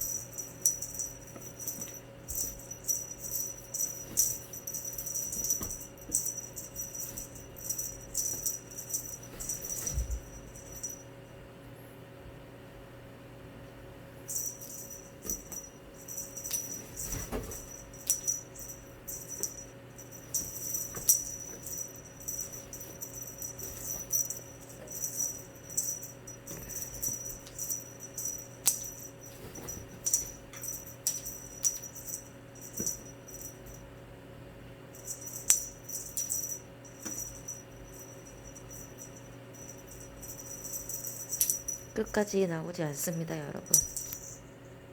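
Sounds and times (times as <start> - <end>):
cat toy jingling rattle: 0.0 - 11.1, 14.3 - 33.9, 34.9 - 42.3, 43.6 - 44.4.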